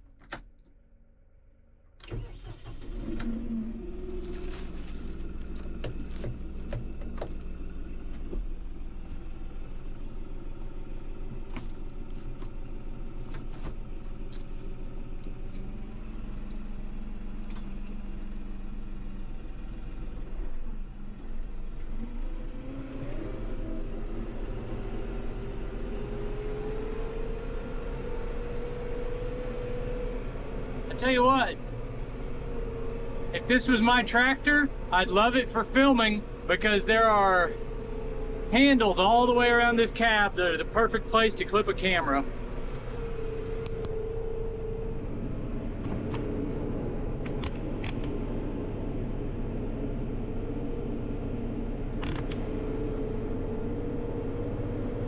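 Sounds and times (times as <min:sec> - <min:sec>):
tractor diesel engine idling: 0:02.0 - 0:22.7, 0:30.2 - 0:55.0.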